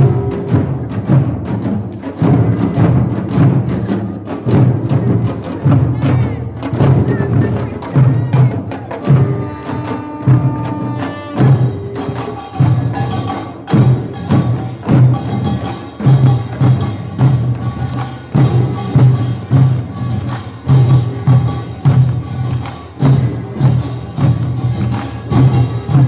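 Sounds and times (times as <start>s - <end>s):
quick sharp percussion strikes: 0.0s - 26.0s.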